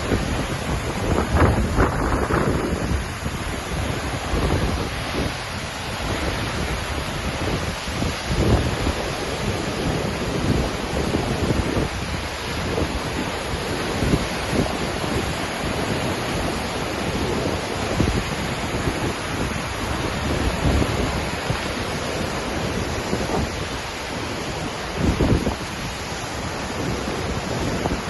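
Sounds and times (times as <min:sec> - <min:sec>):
waterfall rushing: 0:00.0 - 0:28.0
wind buffeting microphone: 0:00.0 - 0:28.0.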